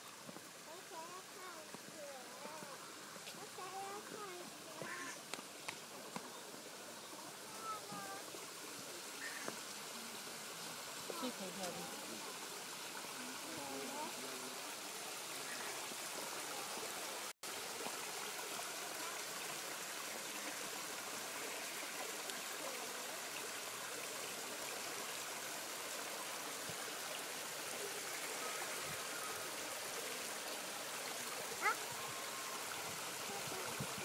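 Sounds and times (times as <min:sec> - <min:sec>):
stream cascading over rocks: 0:00.0 - 0:34.0.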